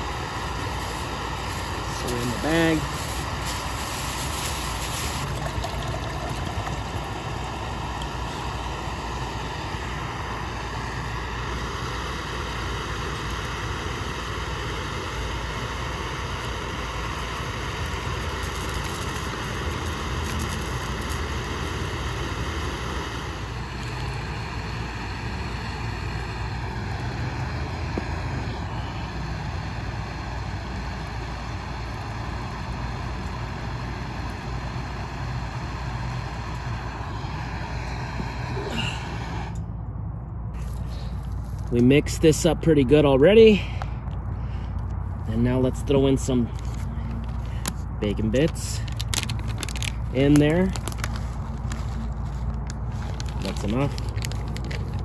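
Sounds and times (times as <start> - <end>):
camp stove burner roaring: 0.0 - 39.8, 40.5 - 55.0.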